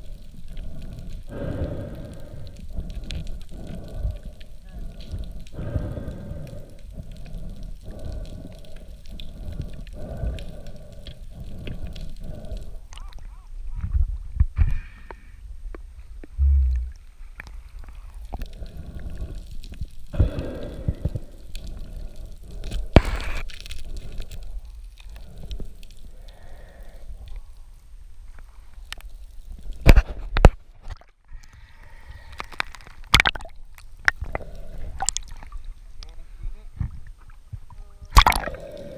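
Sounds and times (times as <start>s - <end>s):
underwater rumble of moving water: 0.0s - 30.3s, 31.6s - 38.9s.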